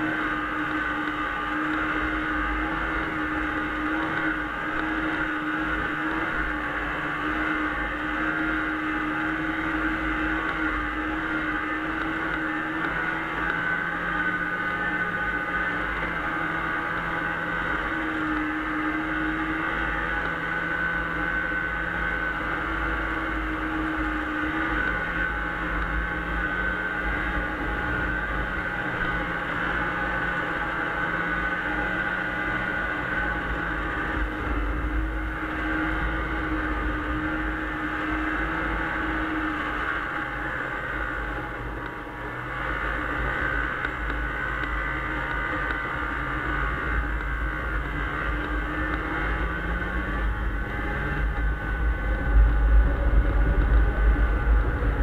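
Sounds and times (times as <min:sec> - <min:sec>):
snowmobile engine whine: 0:00.0 - 0:55.0.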